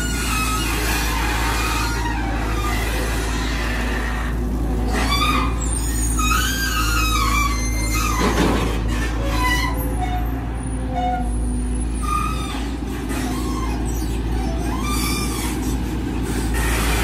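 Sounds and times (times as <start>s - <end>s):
excavator diesel engine running: 0.0s - 17.0s
high-pitched squeals: 0.0s - 17.0s.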